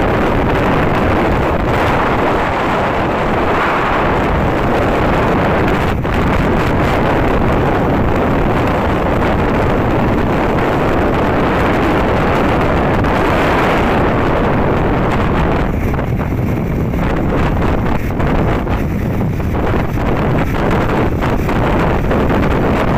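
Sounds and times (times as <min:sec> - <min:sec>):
vehicle noise: 0:00.0 - 0:22.9
wind roaring over microphone: 0:00.0 - 0:22.9.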